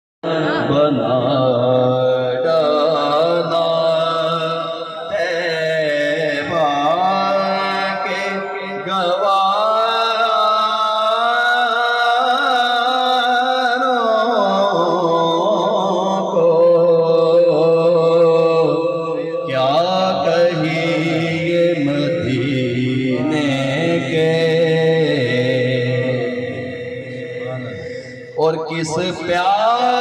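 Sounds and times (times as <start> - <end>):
man singing into a microphone: 0.2 - 30.0.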